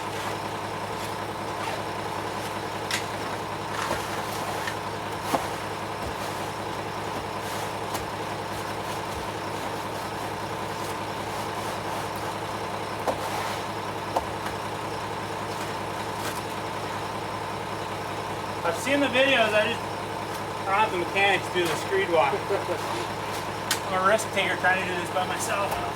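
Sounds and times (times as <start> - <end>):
concrete truck engine drone: 0.0 - 25.9.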